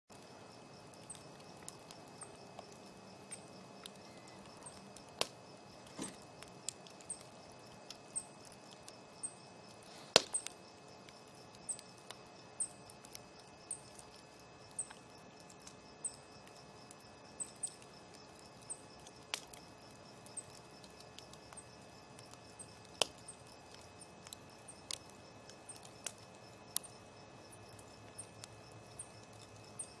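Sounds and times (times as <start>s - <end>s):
low steady hiss: 0.1s - 30.0s
wood fire crackling and popping: 0.1s - 30.0s.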